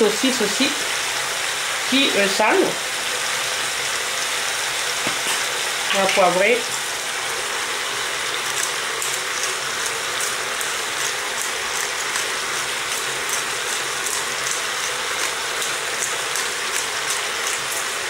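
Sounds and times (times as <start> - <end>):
vegetables sizzling in a pot: 0.0 - 18.0.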